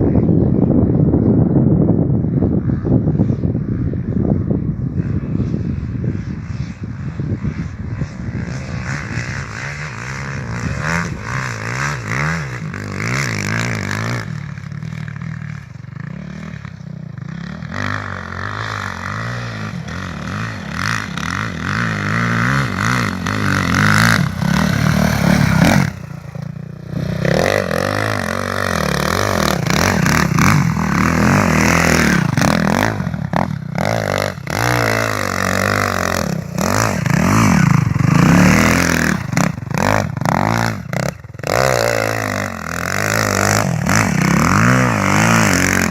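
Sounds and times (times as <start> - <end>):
motorcycle engine revving: 1.5 - 45.9.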